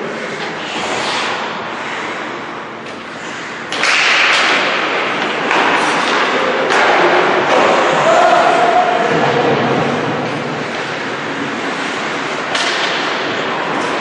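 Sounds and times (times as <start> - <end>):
skates scraping ice: 0.0 - 14.0.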